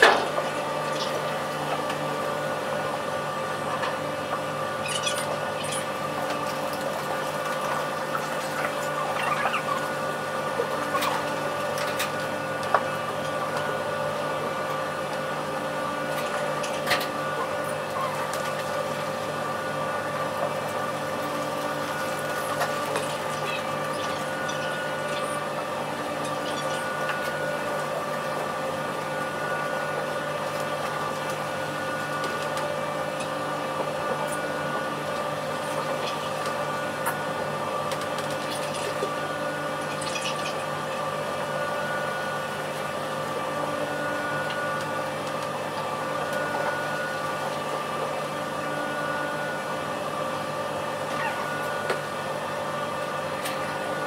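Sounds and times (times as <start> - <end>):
ship machinery drone: 0.0 - 54.0.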